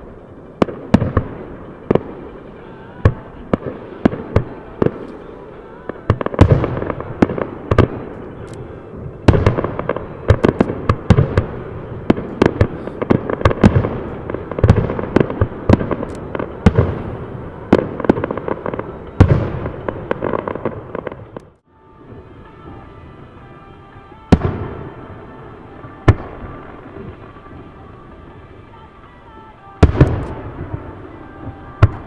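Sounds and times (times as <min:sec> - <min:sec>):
fireworks booms: 0:00.0 - 0:22.8, 0:24.2 - 0:32.0
fireworks bangs and crackles: 0:00.0 - 0:32.0.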